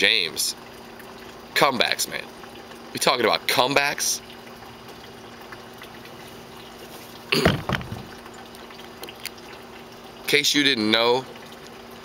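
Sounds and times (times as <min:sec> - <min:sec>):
pool pump hum: 0:00.0 - 0:12.0
running water: 0:00.0 - 0:12.0.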